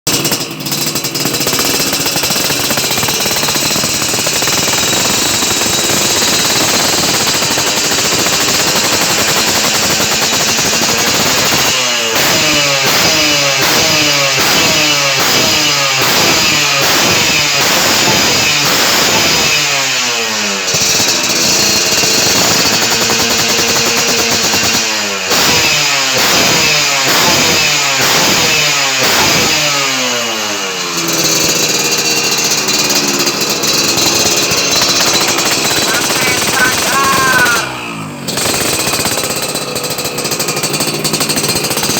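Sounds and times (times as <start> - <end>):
two-stroke motorcycle engine revving: 0.0 - 41.9.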